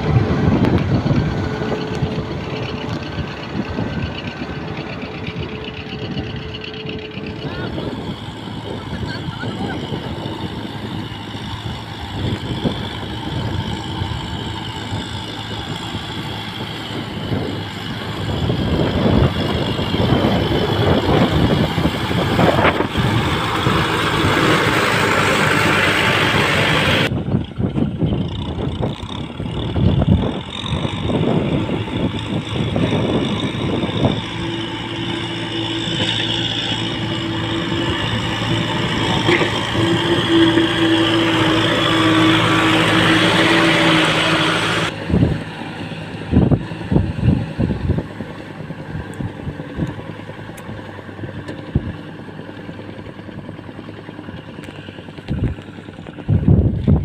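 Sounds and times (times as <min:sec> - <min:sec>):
tractor diesel engine under load: 0:00.0 - 0:57.0
wheels churning through mud and water: 0:00.0 - 0:57.0.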